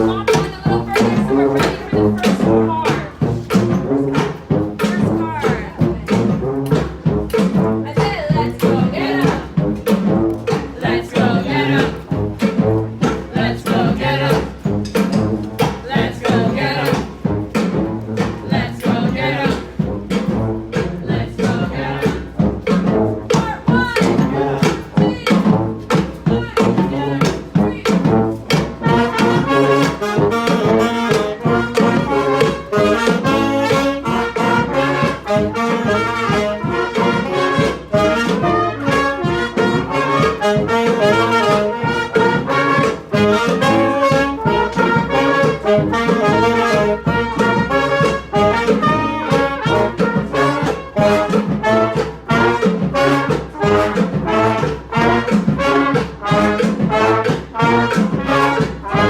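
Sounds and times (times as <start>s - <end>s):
brass band playing: 0.0s - 59.0s
steady drumbeat: 0.0s - 59.0s.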